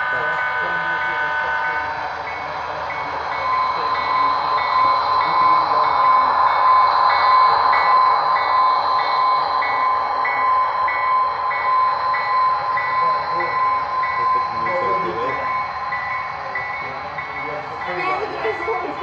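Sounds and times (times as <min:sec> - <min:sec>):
model train whine and rumble: 0:00.0 - 0:19.0.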